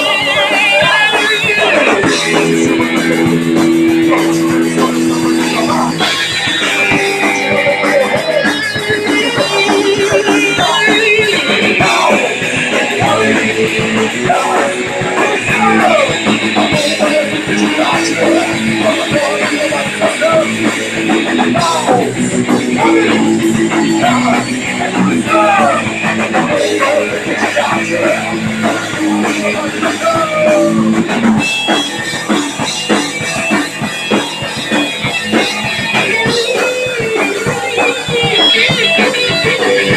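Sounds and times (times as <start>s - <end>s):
punk rock band playing: 0.0s - 39.9s.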